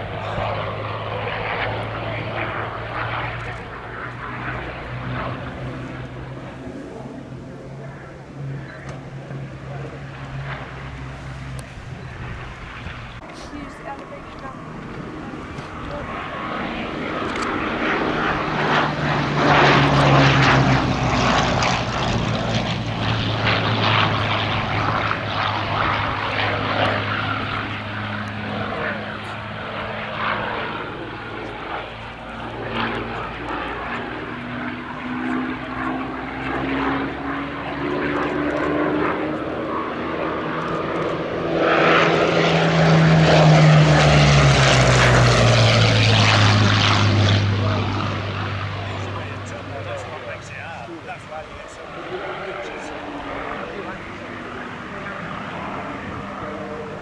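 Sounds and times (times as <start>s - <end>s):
propeller plane engine passing: 0.0s - 57.0s.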